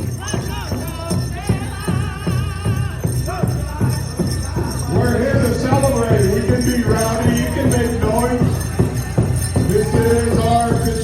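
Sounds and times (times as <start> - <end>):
large drum beating steadily: 0.0 - 11.0
group singing with vibrato: 0.1 - 11.0.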